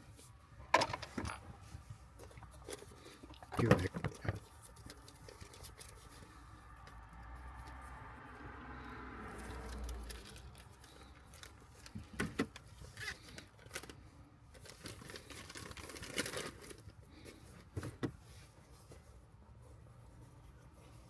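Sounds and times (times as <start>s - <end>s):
rustling and crinkling: 0.0s - 8.0s, 9.4s - 21.0s.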